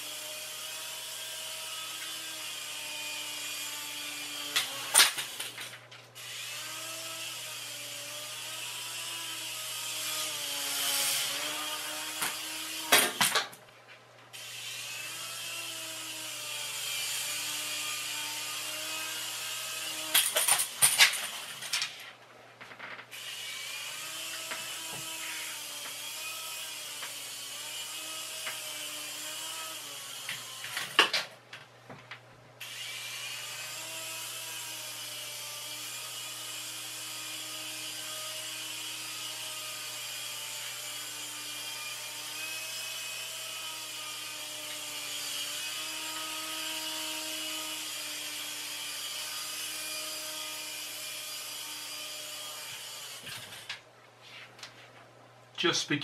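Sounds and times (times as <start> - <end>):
toy helicopter rotors whirring: 0.0 - 13.4, 14.3 - 22.0, 23.1 - 31.2, 32.6 - 53.8.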